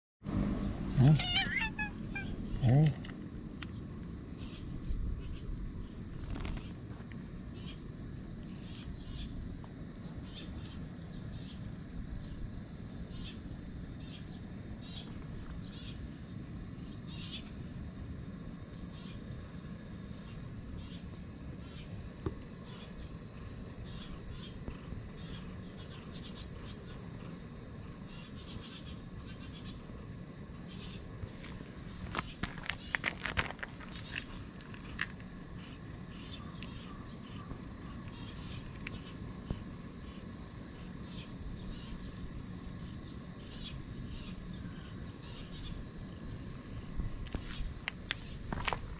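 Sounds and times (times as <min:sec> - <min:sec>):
insects chirping: 0:00.3 - 0:48.9.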